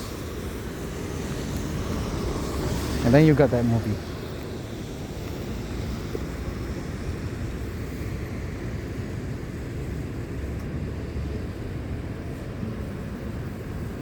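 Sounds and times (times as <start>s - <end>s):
bicycle road noise: 0.0s - 14.0s.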